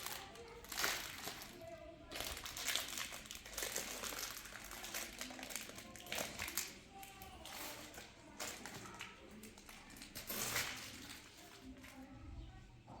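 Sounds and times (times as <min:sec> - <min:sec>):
crinkling and rustling: 0:00.0 - 0:12.2
faint voices: 0:00.0 - 0:13.0.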